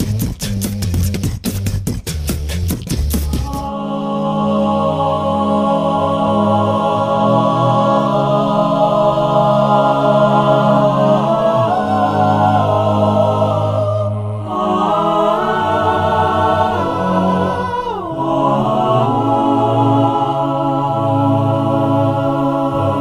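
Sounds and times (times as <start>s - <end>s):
choir singing held chords: 3.3s - 23.0s.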